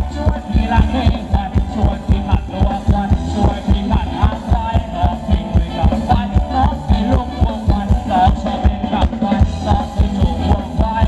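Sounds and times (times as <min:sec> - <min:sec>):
band melody line: 0:00.0 - 0:11.0
fast drum beat: 0:00.0 - 0:11.0.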